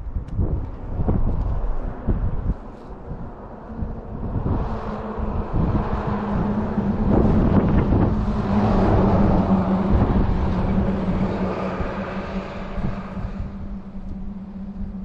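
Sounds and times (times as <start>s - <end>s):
low motor hum: 0.0s - 15.0s
wind buffeting microphone: 0.0s - 15.0s.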